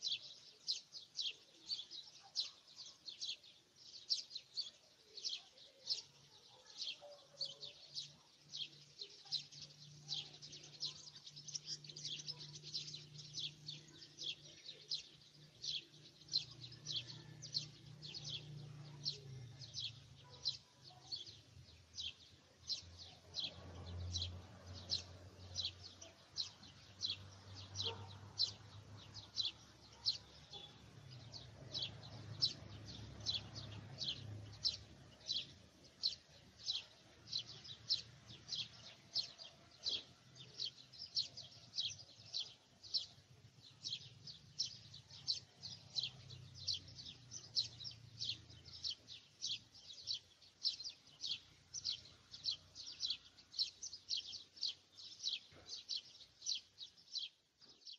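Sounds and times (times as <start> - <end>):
bird chirping: 0.0 - 57.9.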